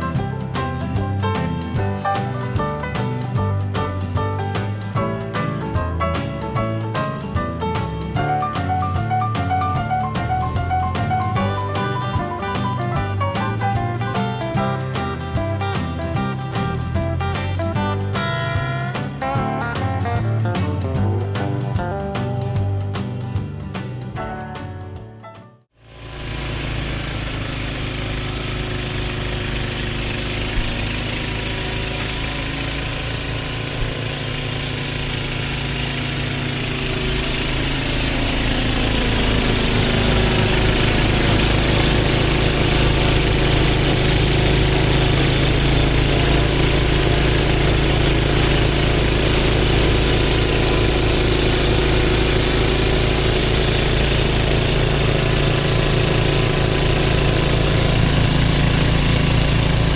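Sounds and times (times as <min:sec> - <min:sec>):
snowblower engine running: 0:00.0 - 0:25.0, 0:25.8 - 0:59.9.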